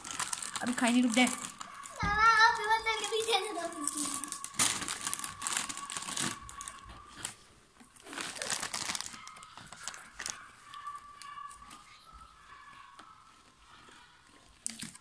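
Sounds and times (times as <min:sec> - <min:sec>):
crisp packets crinkling: 0:00.0 - 0:15.0.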